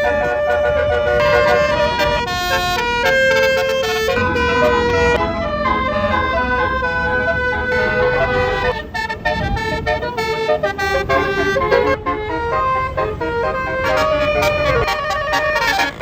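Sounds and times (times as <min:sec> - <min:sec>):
bus musical horn playing tune: 0:00.0 - 0:16.0.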